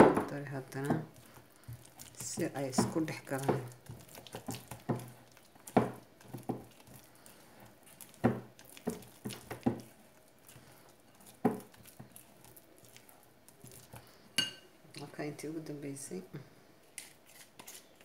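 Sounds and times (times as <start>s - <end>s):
spatula stirring wet mixture: 0.0s - 16.2s, 16.8s - 18.0s.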